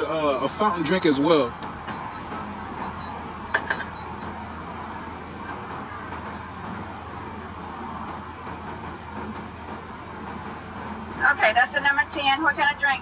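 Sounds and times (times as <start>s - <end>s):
high-pitched whine: 0.0s - 12.6s
car engine idling: 0.0s - 13.0s.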